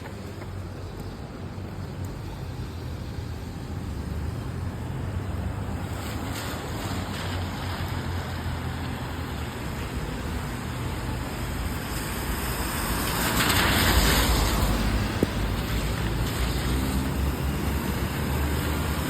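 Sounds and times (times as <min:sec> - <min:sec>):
low rumble of city traffic: 0:00.0 - 0:19.0
rain: 0:00.0 - 0:19.0
tyres hissing on wet road: 0:00.0 - 0:19.0.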